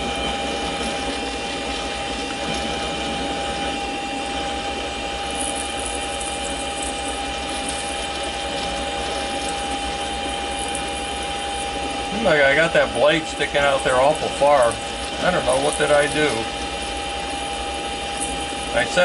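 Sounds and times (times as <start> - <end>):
lathe whining: 0.0 - 19.0.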